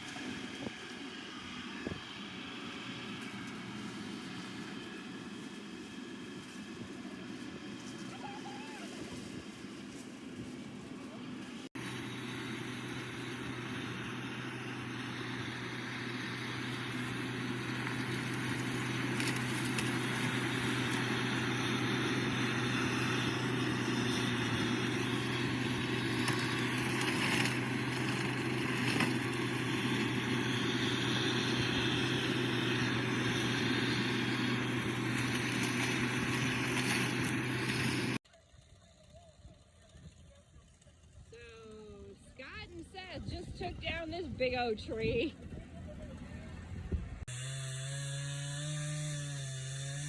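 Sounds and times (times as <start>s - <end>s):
engine humming steadily: 0.0s - 50.0s.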